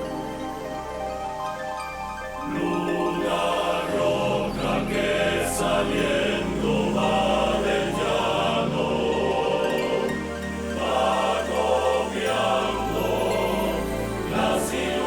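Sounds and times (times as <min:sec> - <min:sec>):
slow choir-like chords: 0:00.0 - 0:15.0.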